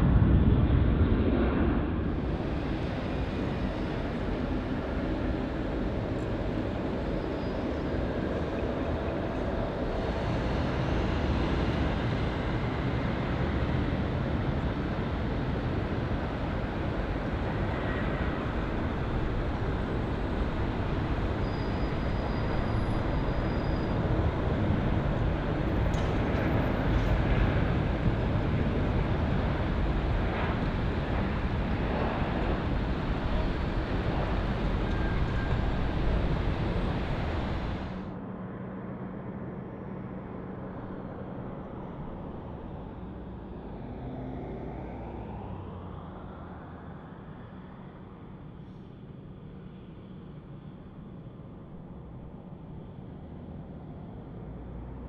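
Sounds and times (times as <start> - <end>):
jet engine rumble: 0.0 - 55.0.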